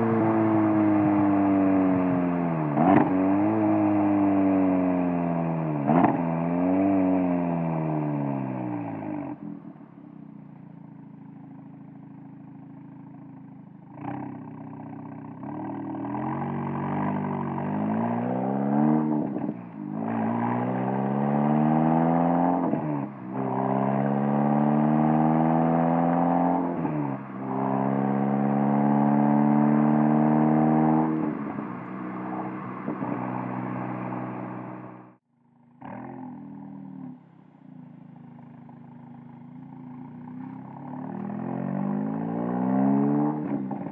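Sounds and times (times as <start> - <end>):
car cruising low note: 0.0 - 35.2, 35.8 - 43.9
car exhaust accelerating: 0.0 - 35.2, 35.8 - 43.9.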